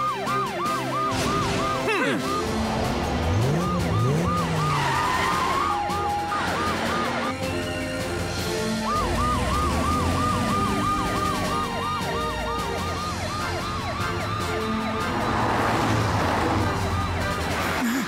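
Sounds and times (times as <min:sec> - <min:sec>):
police siren sweeping: 0:00.0 - 0:17.8
background music: 0:00.0 - 0:18.0.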